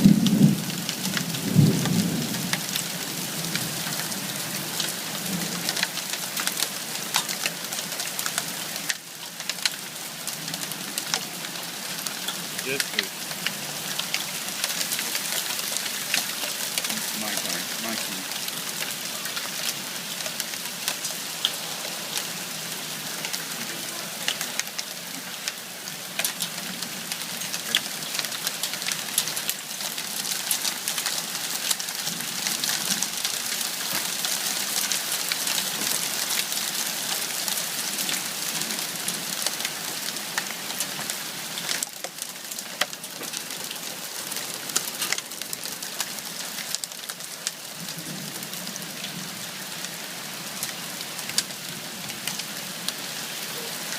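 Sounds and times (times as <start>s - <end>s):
rain and hail falling hard: 0.0s - 53.9s.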